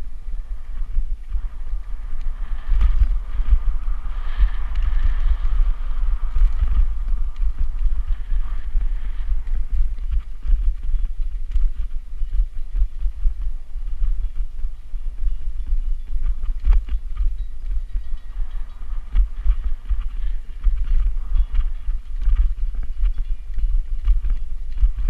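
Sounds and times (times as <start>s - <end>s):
bike rumble: 0.0s - 25.0s
wind buffeting microphone: 0.0s - 25.0s.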